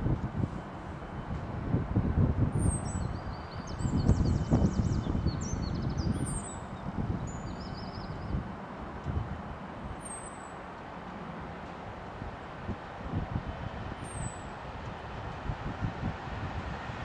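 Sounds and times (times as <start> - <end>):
gusty wind on microphone: 0.0 - 10.0, 12.2 - 17.0
distant train approaching: 0.0 - 17.0.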